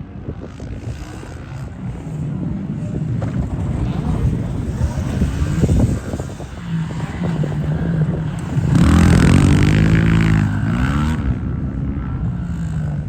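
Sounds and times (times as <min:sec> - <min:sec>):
motorcycle engine revving: 0:00.0 - 0:13.0
small motorcycle engines running: 0:00.0 - 0:13.0.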